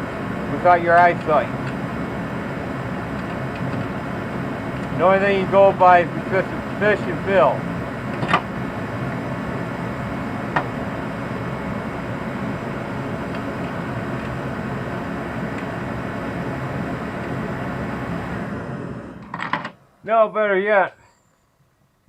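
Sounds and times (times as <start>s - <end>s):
steady machine noise: 0.0s - 22.0s.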